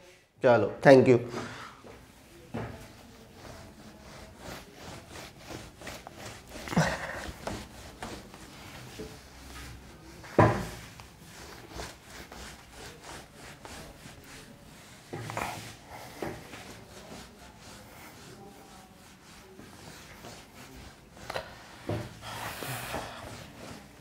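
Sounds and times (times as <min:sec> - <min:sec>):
duster wiping whiteboard: 0:01.3 - 0:24.0.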